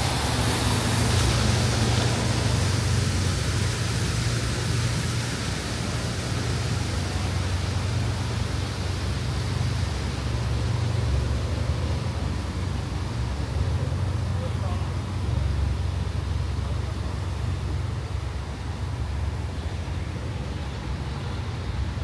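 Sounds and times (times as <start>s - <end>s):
fountain water rushing: 0.0s - 22.0s.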